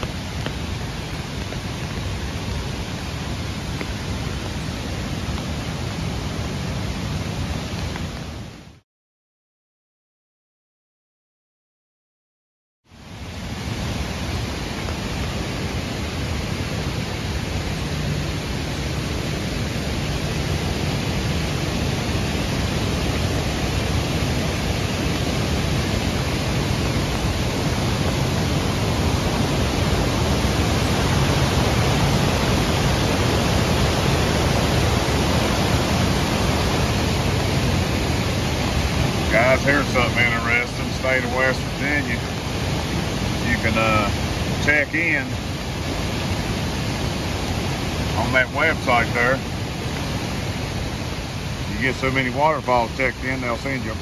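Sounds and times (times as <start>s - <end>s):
creek and waterfall rushing: 0.0s - 8.8s, 12.9s - 54.0s.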